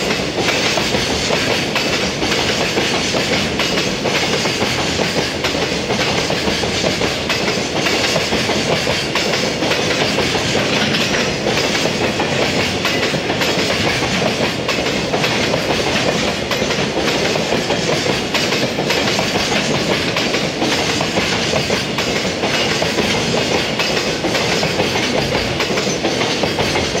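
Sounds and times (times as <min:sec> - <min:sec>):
rumble of wheels on rail: 0:00.0 - 0:27.0
wheels clacking over rail joints: 0:00.0 - 0:27.0.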